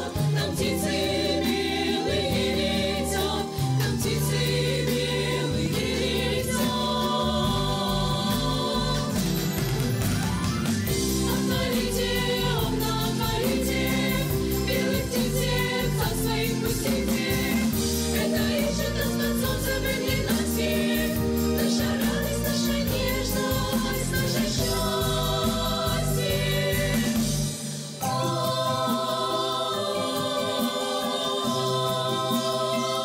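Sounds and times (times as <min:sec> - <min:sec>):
girls' choir singing: 0:00.0 - 0:09.5, 0:11.2 - 0:33.0.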